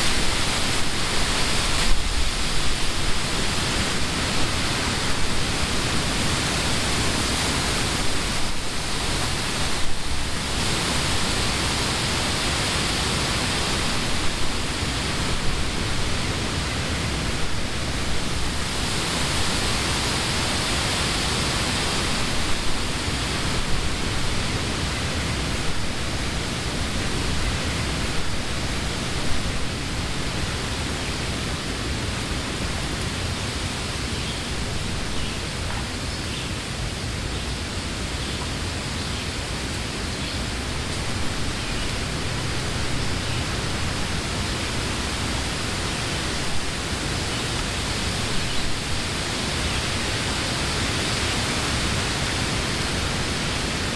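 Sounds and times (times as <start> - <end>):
wind rustling leaves: 0.0 - 53.9.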